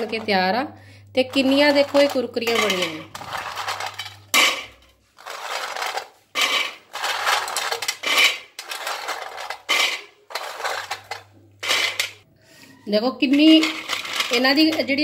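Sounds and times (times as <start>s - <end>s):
sweets clattering on steel plates: 0.0s - 12.3s, 13.0s - 15.0s.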